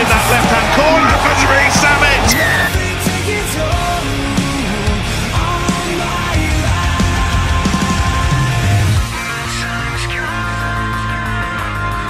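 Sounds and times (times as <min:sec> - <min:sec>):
loud heavy rock music: 0:00.0 - 0:12.0.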